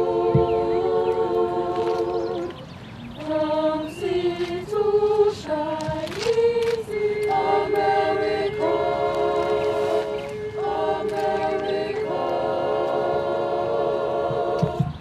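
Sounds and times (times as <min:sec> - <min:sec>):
choir singing a cappella: 0:00.0 - 0:15.0.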